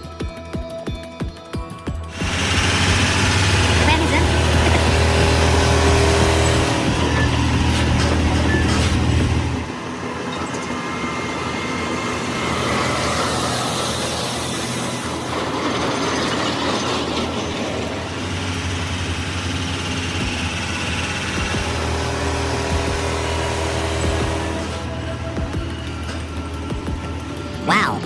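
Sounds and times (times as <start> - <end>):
heavy vehicle engine rumbling: 2.1 - 27.8.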